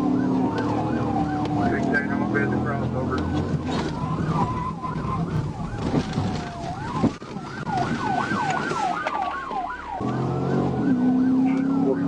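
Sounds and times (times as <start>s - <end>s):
police siren wail: 0.0s - 12.0s
police siren yelp: 0.0s - 12.0s
vehicle running noise: 0.0s - 12.0s.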